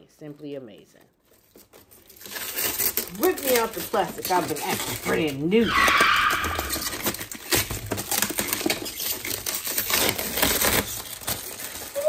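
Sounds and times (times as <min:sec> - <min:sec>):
plastic film peeling and crinkling: 0:00.0 - 0:12.0.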